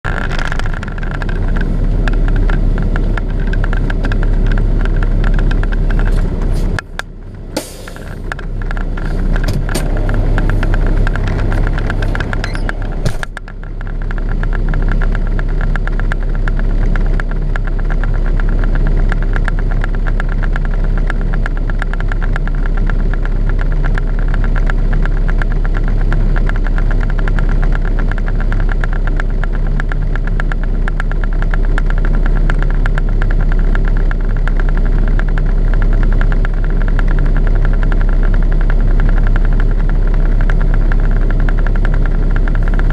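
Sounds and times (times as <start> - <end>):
sharp clicks and knocks: 0.1 - 42.9
truck engine idling: 0.1 - 42.9.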